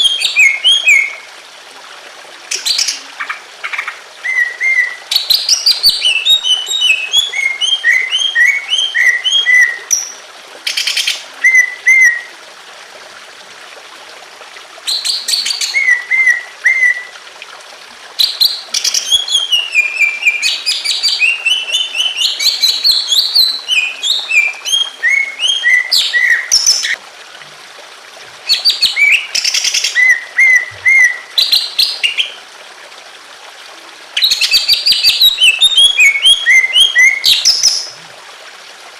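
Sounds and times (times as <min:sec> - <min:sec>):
trickle of water: 0:00.0 - 0:38.9.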